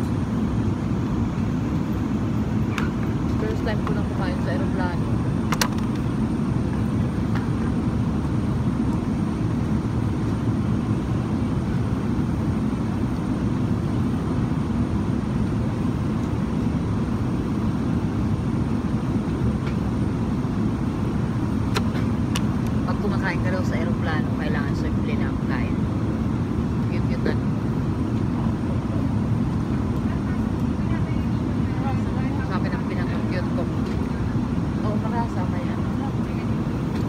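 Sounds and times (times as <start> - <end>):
airliner cabin engine noise: 0.0 - 37.0.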